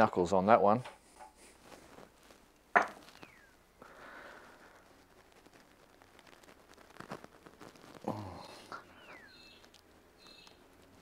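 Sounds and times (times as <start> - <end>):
soft breath hiss: 0.9 - 11.0.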